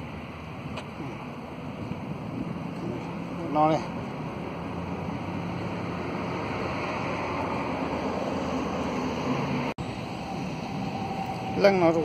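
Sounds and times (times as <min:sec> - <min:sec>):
wind on microphone: 0:01.6 - 0:11.8.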